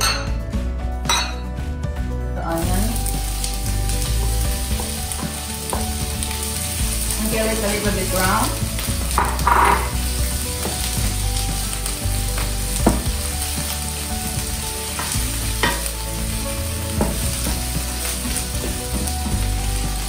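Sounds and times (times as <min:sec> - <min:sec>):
onion sizzling in a frying pan: 0:02.5 - 0:20.0.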